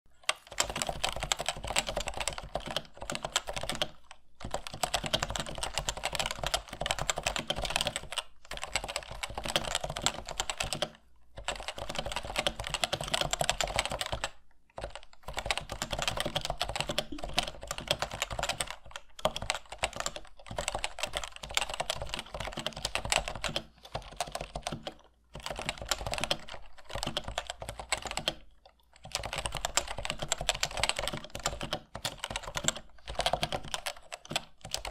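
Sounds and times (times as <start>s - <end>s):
typing on a keyboard: 0.1s - 34.9s.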